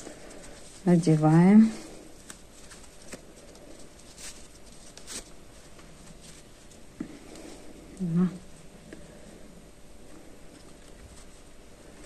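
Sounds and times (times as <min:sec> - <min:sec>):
faint rustling: 0:00.0 - 0:12.0.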